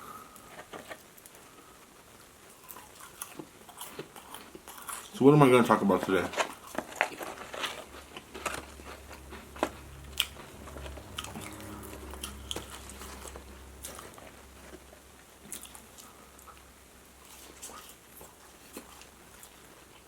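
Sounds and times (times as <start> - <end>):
faint low hum: 0.0 - 20.0
crunchy biting and chewing: 2.5 - 20.0.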